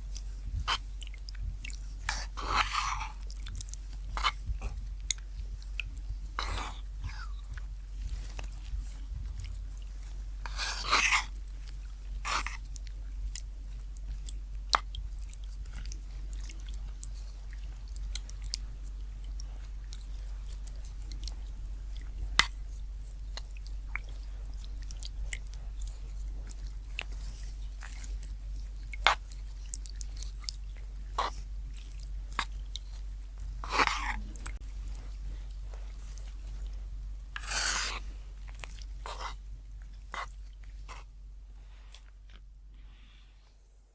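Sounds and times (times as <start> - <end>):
chewing: 0.0 - 43.0
steady low hum: 0.0 - 43.9.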